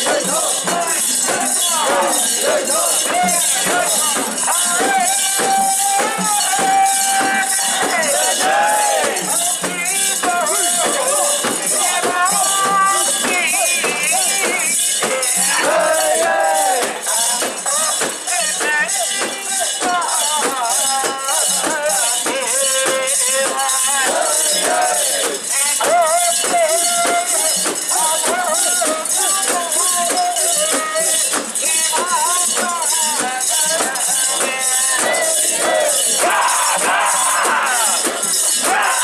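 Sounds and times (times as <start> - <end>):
metallic jingling: 0.0 - 39.0
wavering festival music: 0.0 - 39.0.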